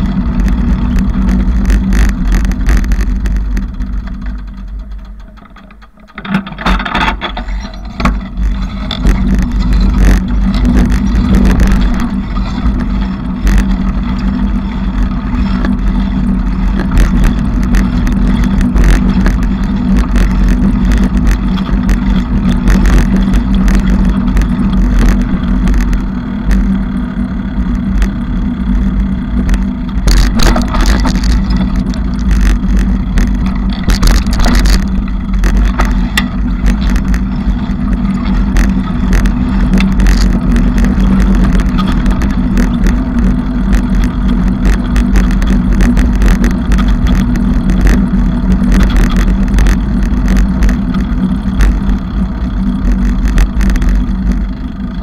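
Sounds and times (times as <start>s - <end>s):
bicycle rattles and clicks: 0.0s - 55.0s
bicycle rumbling: 0.0s - 55.0s.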